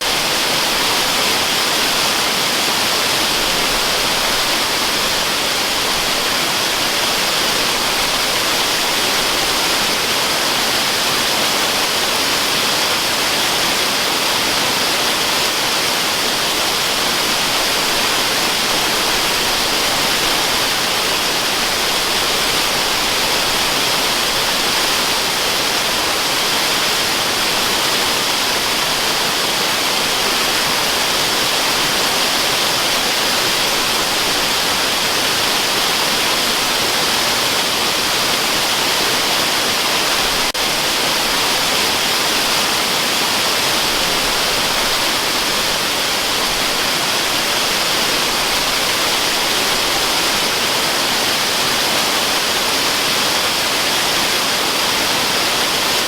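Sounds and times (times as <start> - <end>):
waterfall splashing: 0.0 - 56.0.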